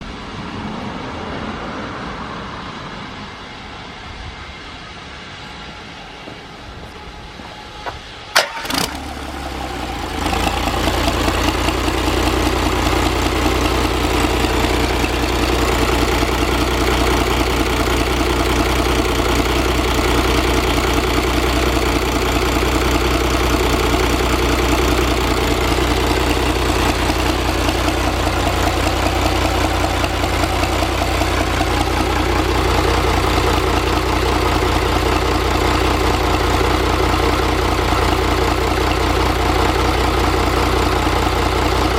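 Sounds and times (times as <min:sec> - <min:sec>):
diesel engine idling: 0:03.7 - 0:41.9
diesel engine starting clatter: 0:05.9 - 0:41.9.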